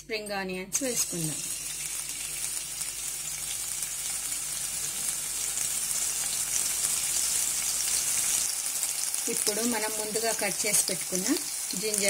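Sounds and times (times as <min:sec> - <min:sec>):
onions sizzling in hot oil: 0:00.8 - 0:12.0.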